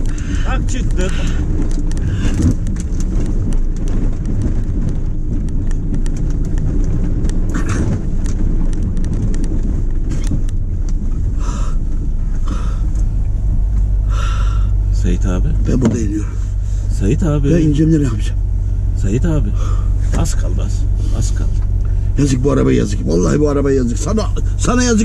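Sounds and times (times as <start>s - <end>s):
vehicle knocks and rattles: 0.0s - 14.0s, 15.0s - 25.0s
engine running inside cabin: 0.0s - 25.0s.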